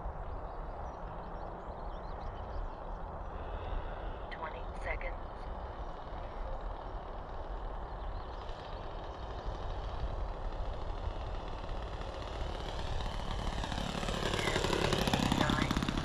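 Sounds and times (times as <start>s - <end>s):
model airplane engine: 0.0s - 16.0s.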